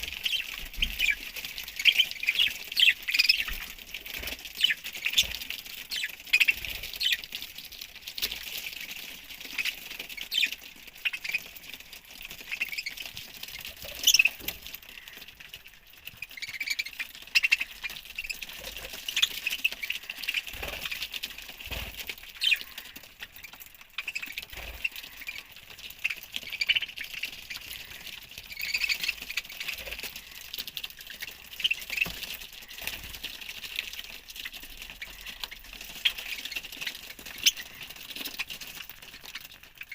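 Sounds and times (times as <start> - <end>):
budgerigars chirping and squawking: 0.0 - 7.3, 9.4 - 11.6, 12.3 - 15.3, 16.2 - 33.0, 34.4 - 39.9.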